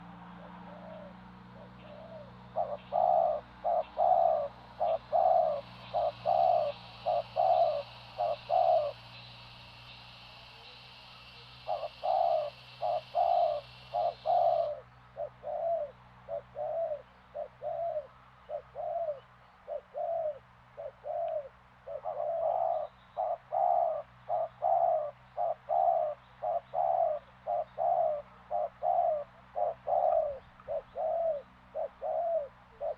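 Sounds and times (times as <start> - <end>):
dove cooing: 0.0 - 32.9.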